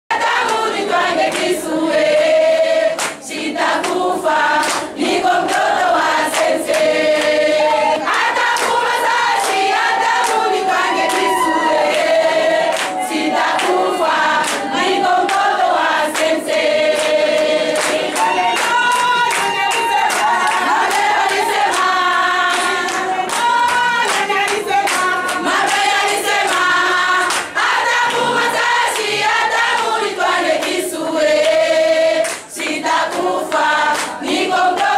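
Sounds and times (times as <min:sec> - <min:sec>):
women singing in chorus: 0:00.1 - 0:34.9
hand claps: 0:00.2 - 0:01.7, 0:02.9 - 0:31.6, 0:32.2 - 0:34.9.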